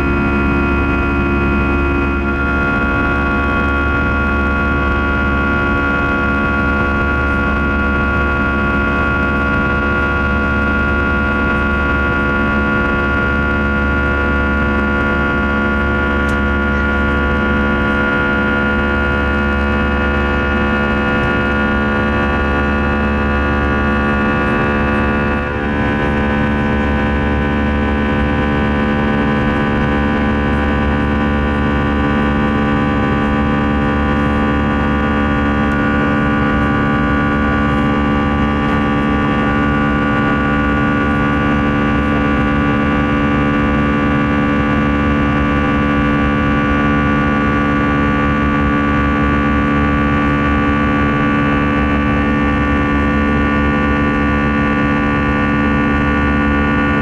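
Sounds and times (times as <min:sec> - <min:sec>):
jet engines buzzsaw drone: 0:00.0 - 0:57.0
low engine rumble: 0:00.0 - 0:57.0.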